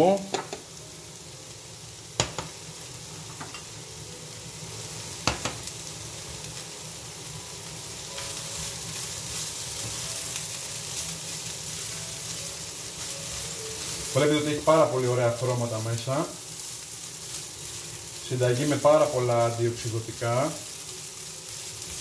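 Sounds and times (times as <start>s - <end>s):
rice sizzling in frying pan: 0.0s - 22.0s.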